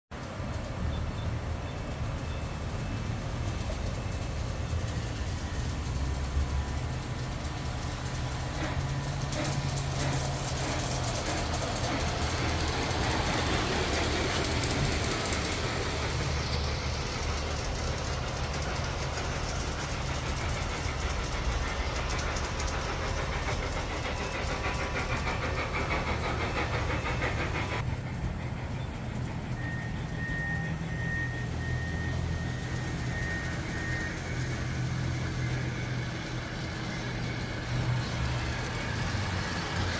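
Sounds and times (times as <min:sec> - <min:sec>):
model locomotive rolling on track: 0:00.2 - 0:39.9.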